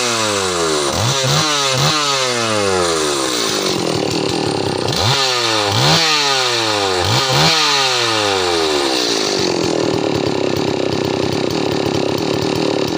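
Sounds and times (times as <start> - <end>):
chainsaw engine revving: 0.0 - 12.9.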